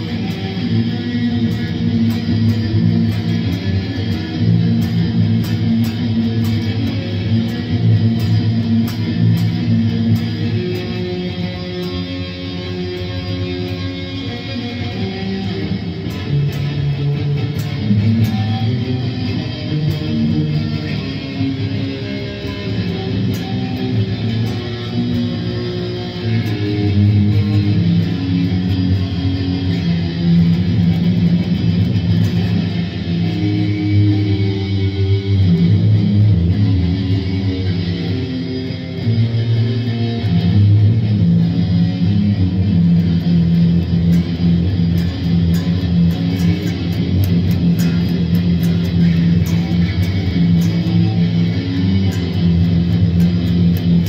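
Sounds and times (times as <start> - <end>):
electric guitar riff: 0.0 - 54.0.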